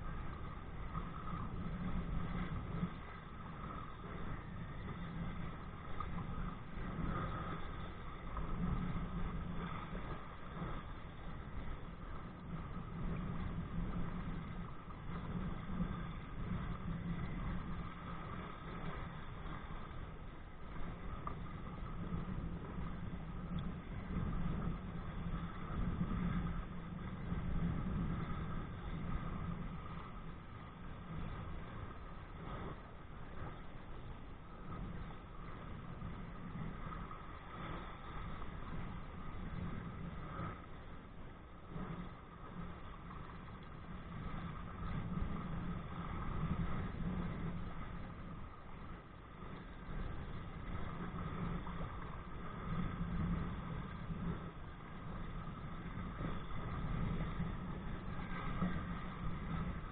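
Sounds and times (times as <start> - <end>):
low rumble: 0.0 - 59.9
rushing water: 0.0 - 59.9
wind buffeting microphone: 0.0 - 59.9.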